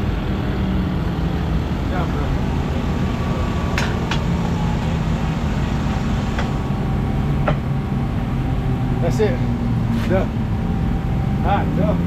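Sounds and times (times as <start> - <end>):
motorcycle engine running: 0.0 - 12.0
rushing noise: 0.0 - 12.0.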